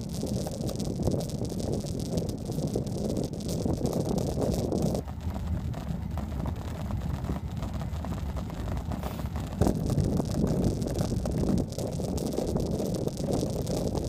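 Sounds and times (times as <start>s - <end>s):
bicycle rolling with rattles: 0.0s - 14.0s
wind buffeting microphone: 0.0s - 14.0s.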